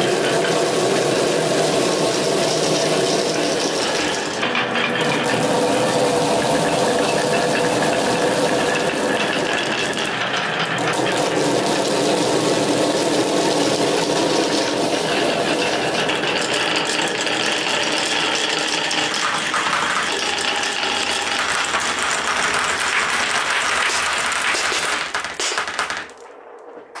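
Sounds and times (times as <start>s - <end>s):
marbles rattling on wooden tracks: 0.0s - 27.0s.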